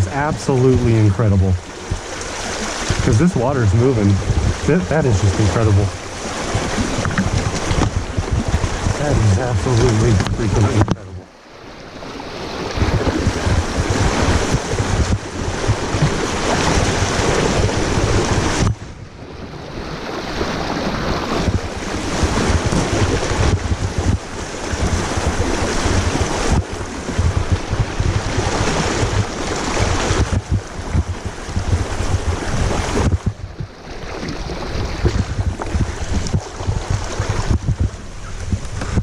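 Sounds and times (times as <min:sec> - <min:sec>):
wind buffeting microphone: 0:00.0 - 0:11.2, 0:11.9 - 0:39.0
fast-moving river water rushing: 0:00.0 - 0:39.0.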